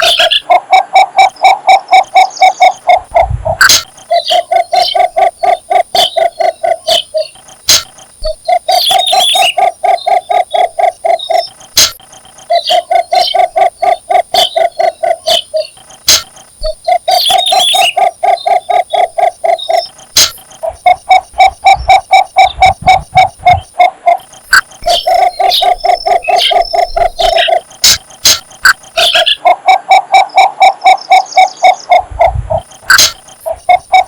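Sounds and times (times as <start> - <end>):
bird calling low notes: 0.0 - 34.0.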